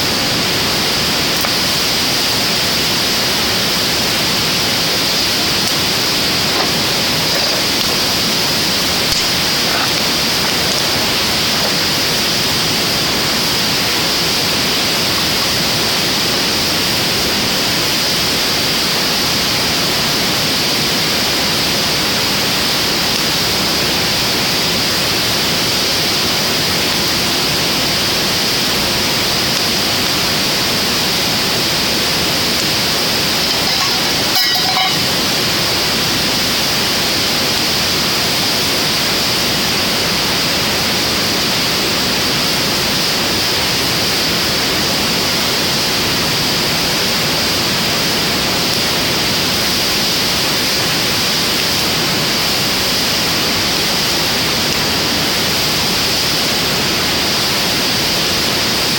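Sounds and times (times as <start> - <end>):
fire burning with steady hiss: 0.0 - 58.9.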